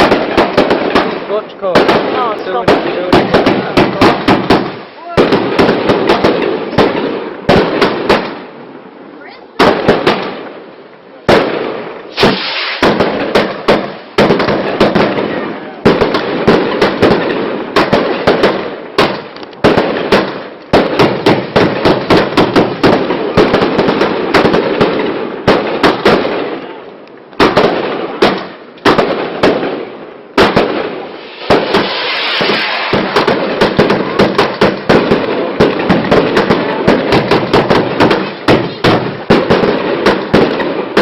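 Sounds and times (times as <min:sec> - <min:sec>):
fireworks banging: 0:00.0 - 0:41.0.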